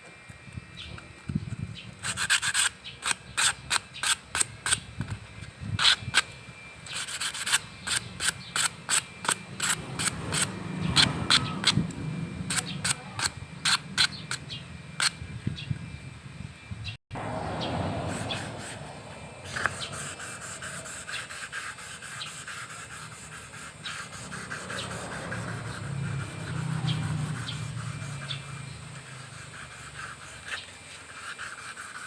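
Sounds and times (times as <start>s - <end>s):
scrubbing strokes on metal part: 2.0s - 15.2s, 18.1s - 32.0s.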